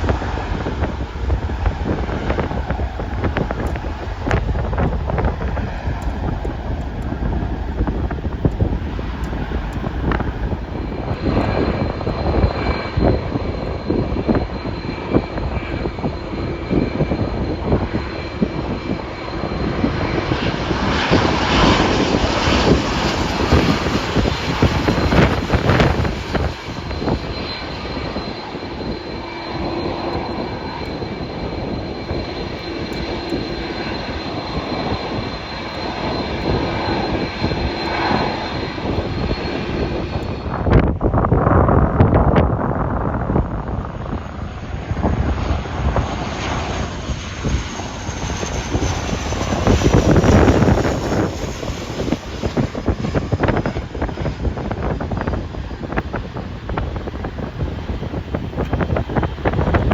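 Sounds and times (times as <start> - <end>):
high-pitched jet whine: 0.0 - 59.9
jet engine rumble: 0.0 - 59.9.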